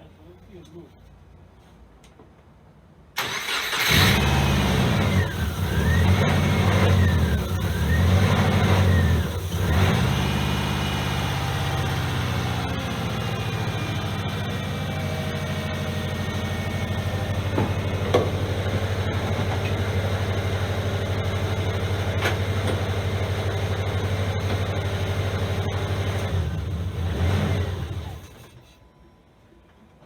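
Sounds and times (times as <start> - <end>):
car engine idling: 4.0 - 28.4.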